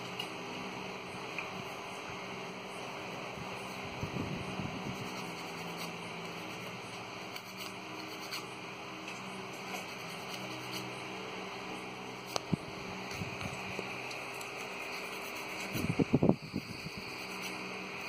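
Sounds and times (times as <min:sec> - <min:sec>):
steady buzzing hum: 0:00.0 - 0:18.0.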